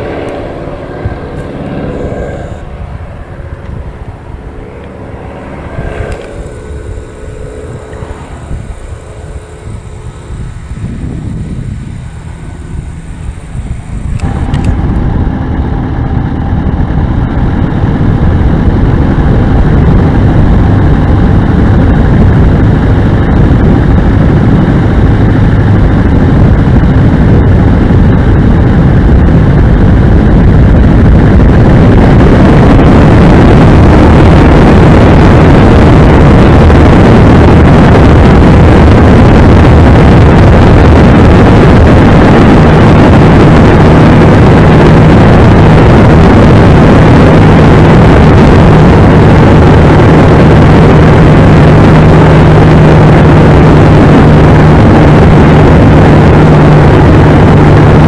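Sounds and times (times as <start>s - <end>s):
light aircraft engine running: 0.0s - 58.0s.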